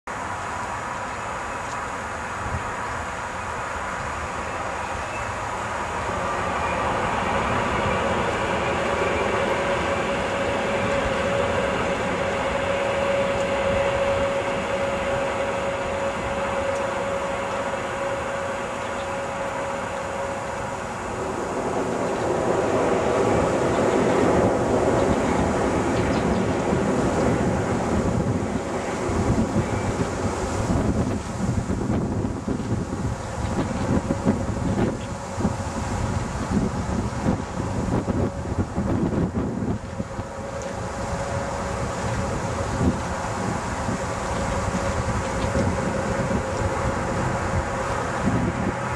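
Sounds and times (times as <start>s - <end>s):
train rumble: 0.0s - 48.9s
high electric whine: 0.6s - 48.9s.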